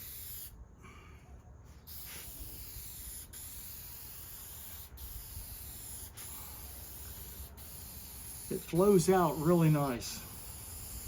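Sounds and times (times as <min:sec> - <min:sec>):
aerosol can spraying: 0:00.0 - 0:00.5, 0:01.8 - 0:11.0.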